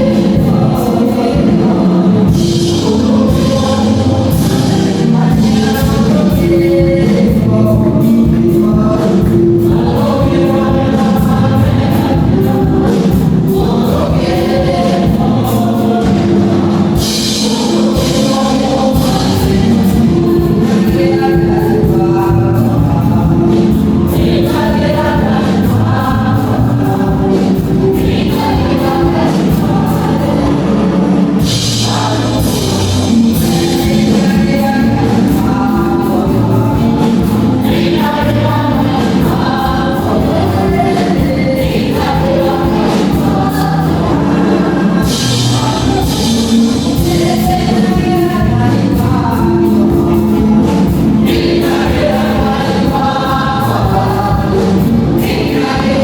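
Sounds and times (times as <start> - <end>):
gospel choir with accompaniment: 0.0 - 56.0.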